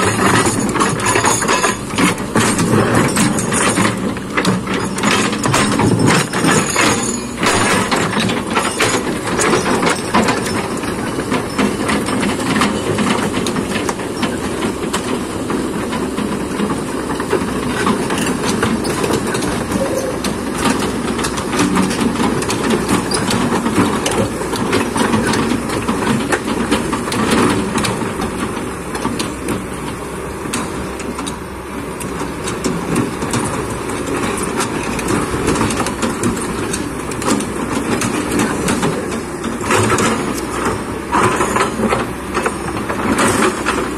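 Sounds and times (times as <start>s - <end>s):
excavator engine running: 0.0s - 43.9s
knocks clanks and rattles of bucket: 0.0s - 43.9s.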